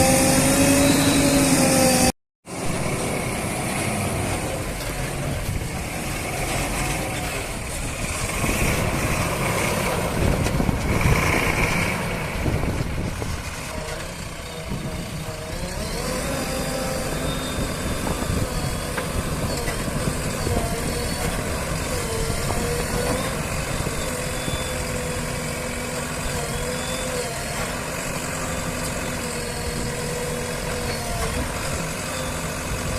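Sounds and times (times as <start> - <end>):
diesel engines of heavy vehicles: 0.0 - 32.9.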